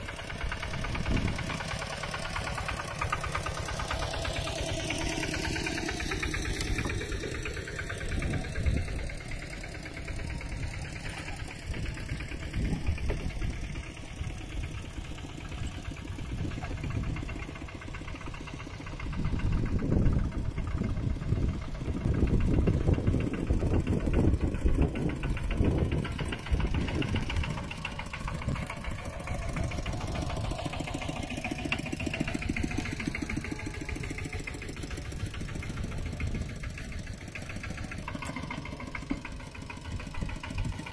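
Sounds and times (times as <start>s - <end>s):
mini tractor engine running: 0.0s - 40.9s.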